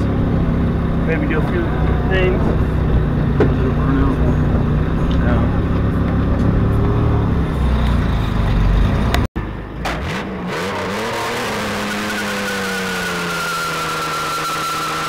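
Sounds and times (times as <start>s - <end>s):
engine and road rumble: 0.0s - 15.0s
truck engine revving: 0.0s - 15.0s.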